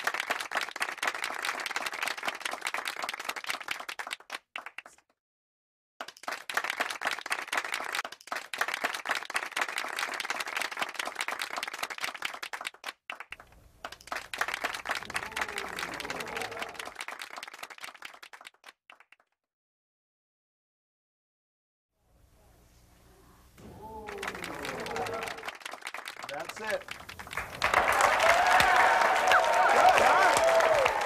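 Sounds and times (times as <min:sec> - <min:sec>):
audience applause: 0:00.0 - 0:05.0, 0:06.0 - 0:19.1, 0:23.7 - 0:31.0.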